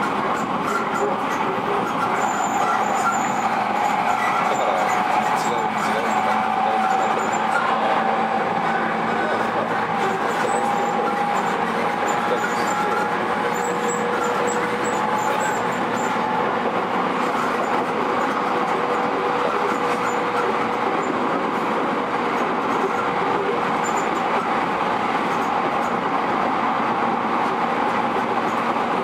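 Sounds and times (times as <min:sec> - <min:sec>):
electric train wheels on rail: 0:00.0 - 0:29.0.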